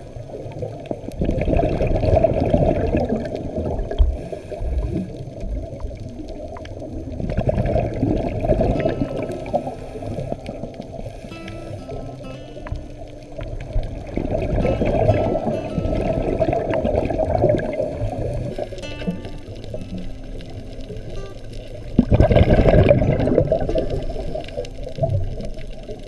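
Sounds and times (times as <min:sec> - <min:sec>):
muffled underwater water rumbling: 0:00.0 - 0:26.0.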